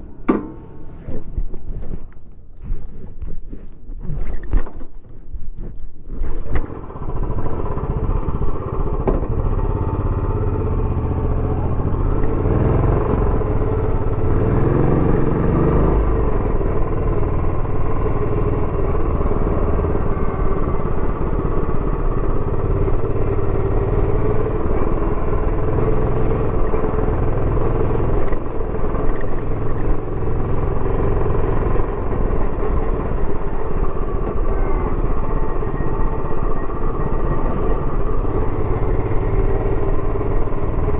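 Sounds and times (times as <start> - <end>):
motorcycle engine running: 6.4 - 40.9.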